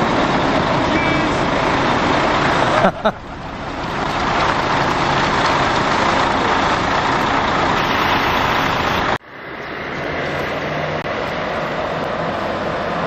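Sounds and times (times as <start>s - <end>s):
diesel truck passing on wet road: 0.0s - 13.0s
truck engine humming: 0.0s - 13.0s.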